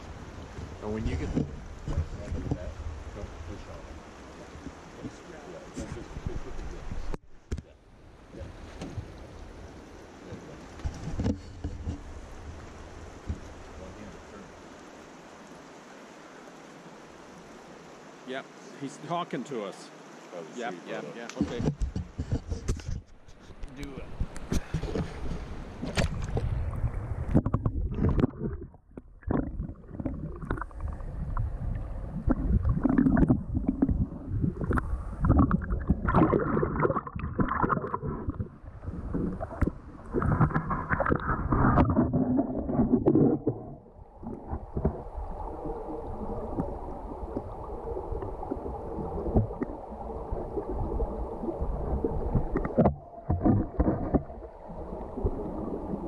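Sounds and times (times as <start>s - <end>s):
muffled underwater river rushing: 0.0s - 56.0s.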